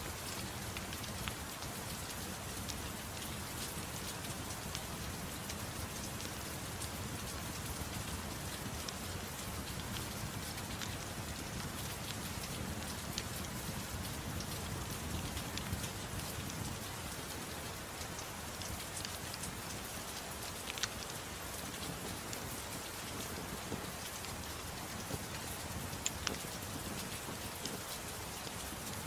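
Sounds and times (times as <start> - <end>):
fireplace crackling and popping: 0.0 - 29.0
soft rain: 0.0 - 29.0.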